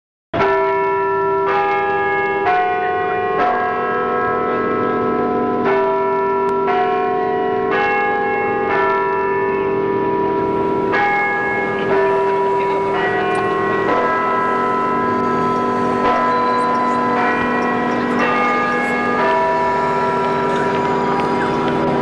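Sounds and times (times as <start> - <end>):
church bells ringing: 0.4 - 22.0.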